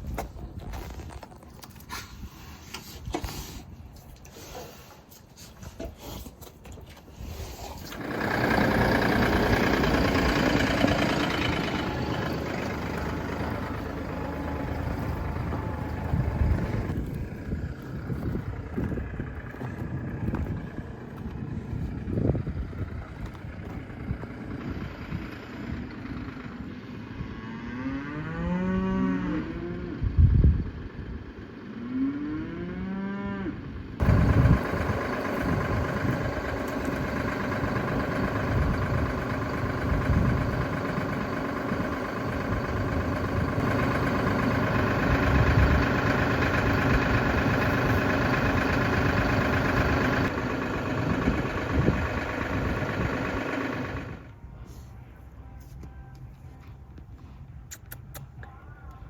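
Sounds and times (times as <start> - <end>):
engine drone: 7.1 - 58.9.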